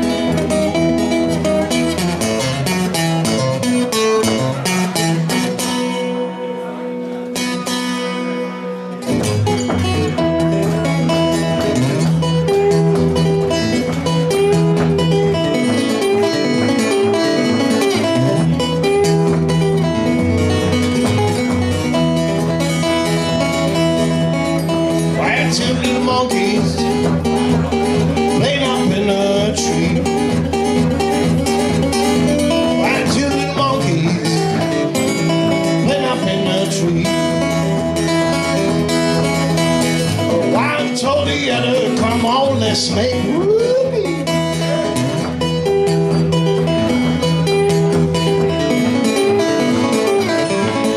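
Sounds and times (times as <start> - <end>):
fingerpicked acoustic guitar blues: 0.0 - 50.9.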